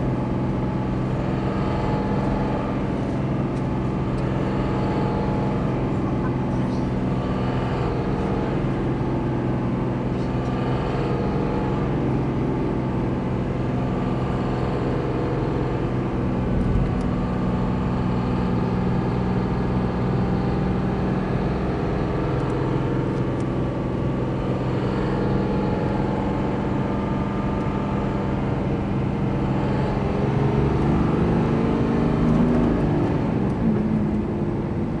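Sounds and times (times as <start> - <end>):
diesel engine running: 0.0 - 35.0
engine rattle: 0.0 - 35.0
engine revving: 0.0 - 35.0.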